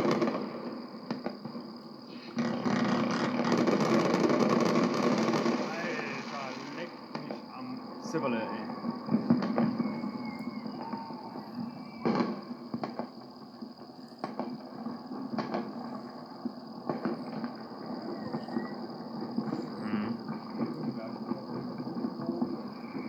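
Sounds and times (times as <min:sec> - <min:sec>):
firecrackers banging: 0:00.0 - 0:23.0
steady background hiss: 0:00.0 - 0:23.0.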